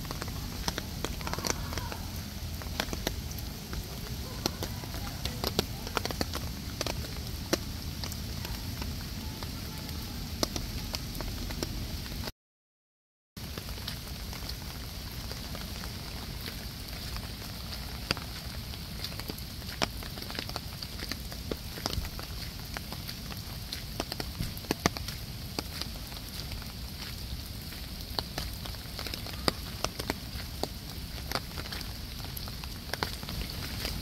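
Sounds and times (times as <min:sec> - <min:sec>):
water spraying and splashing: 0:00.0 - 0:12.3, 0:13.4 - 0:34.0.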